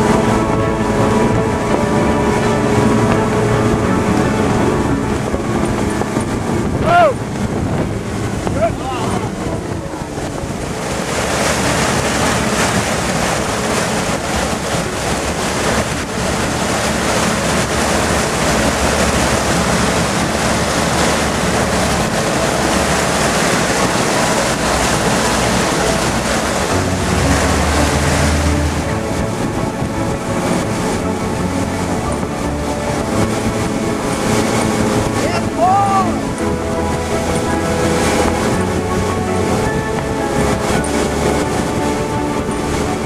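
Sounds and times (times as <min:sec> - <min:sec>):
boat engine running: 0:00.0 - 0:43.0
boat wake churning and splashing: 0:00.0 - 0:43.0
wind buffeting microphone: 0:00.0 - 0:43.0.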